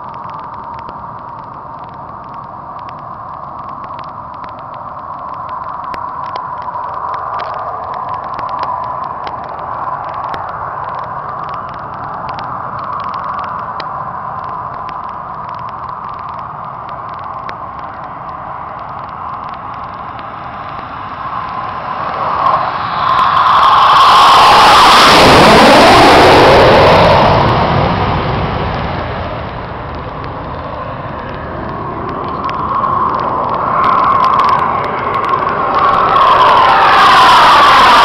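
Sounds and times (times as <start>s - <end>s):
distant jet engine rushing whine: 0.0s - 38.0s.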